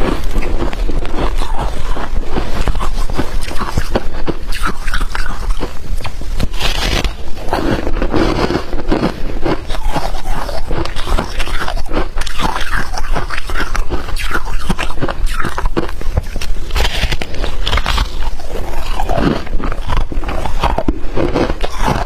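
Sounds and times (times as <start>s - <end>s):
person crunching ice: 0.0s - 22.0s.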